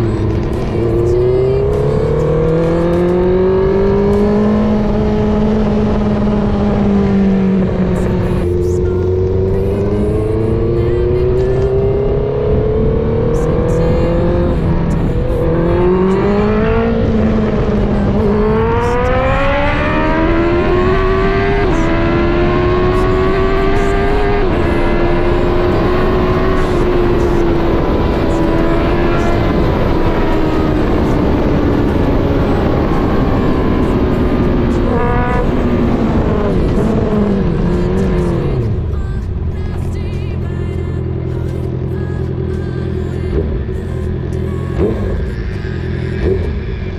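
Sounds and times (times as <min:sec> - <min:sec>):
engine rev blips: 0:00.0 - 0:46.9
motorcycle engine accelerating: 0:00.0 - 0:46.9.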